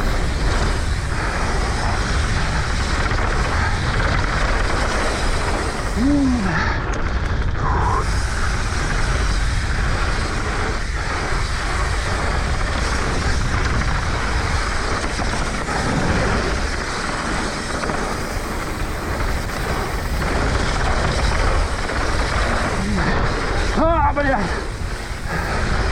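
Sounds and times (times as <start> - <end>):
bike tyres rolling on dirt: 0.0 - 25.9
wind buffeting microphone: 0.0 - 25.9.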